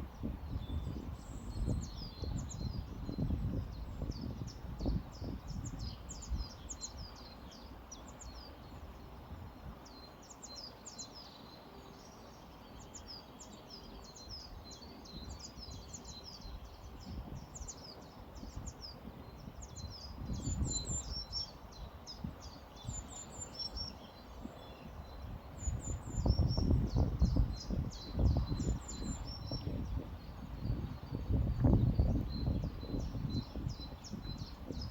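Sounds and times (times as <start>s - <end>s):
low background hiss: 0.0s - 34.9s
small birds chirping: 0.0s - 34.9s.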